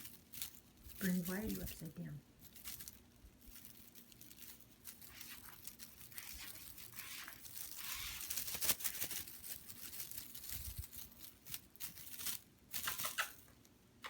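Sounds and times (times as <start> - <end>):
small scratches and ticks: 0.0 - 13.8
soft rustling and crinkling: 0.0 - 14.0.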